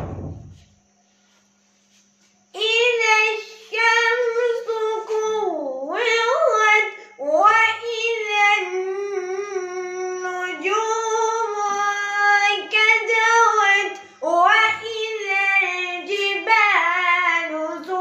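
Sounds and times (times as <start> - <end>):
boy chanting: 2.6 - 18.0.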